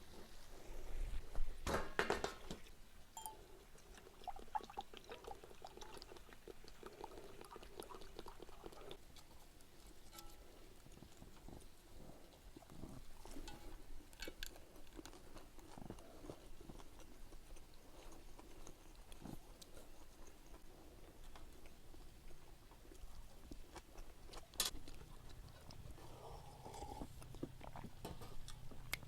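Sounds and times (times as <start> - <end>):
chewing and crunching: 3.2 - 29.0.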